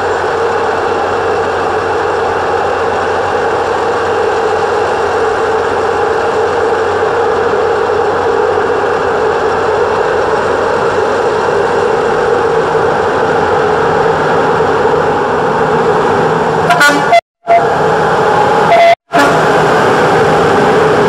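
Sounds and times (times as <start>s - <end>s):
locomotive droning: 0.0s - 21.0s.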